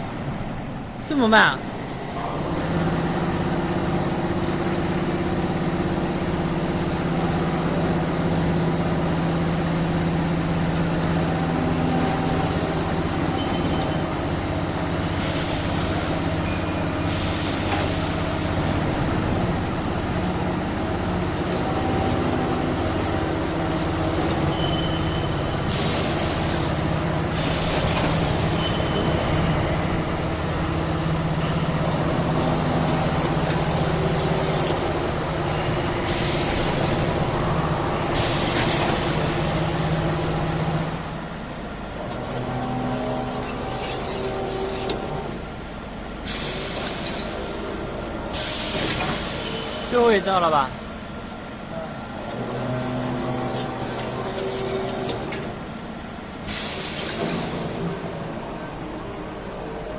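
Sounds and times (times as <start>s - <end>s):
machine motor hum: 1.8s - 59.9s.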